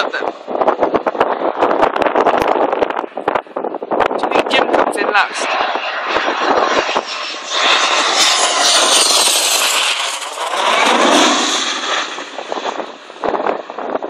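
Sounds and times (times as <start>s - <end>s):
jet roaring overhead: 0.0s - 14.0s.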